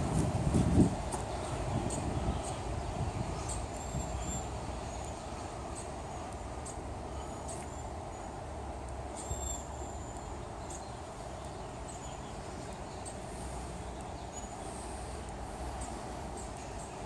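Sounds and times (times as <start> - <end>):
low rumble and hiss: 0.0 - 17.0
small birds chirping: 0.8 - 17.0.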